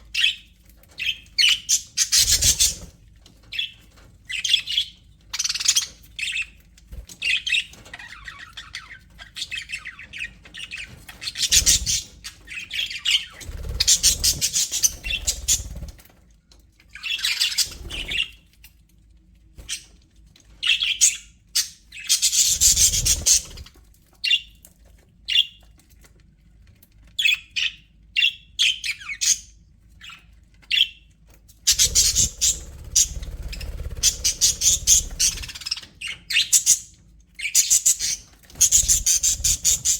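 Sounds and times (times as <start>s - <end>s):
budgerigars chirping and warbling: 0.0s - 16.0s, 16.9s - 18.4s, 20.6s - 24.6s, 27.2s - 39.9s.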